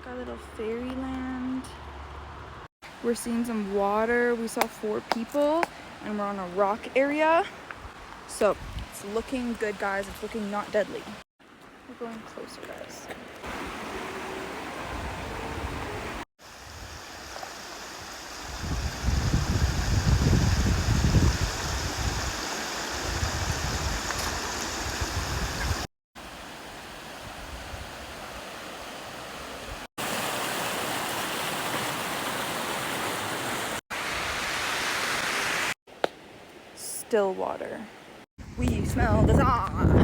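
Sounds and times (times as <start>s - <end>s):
rushing water: 2.8s - 35.8s.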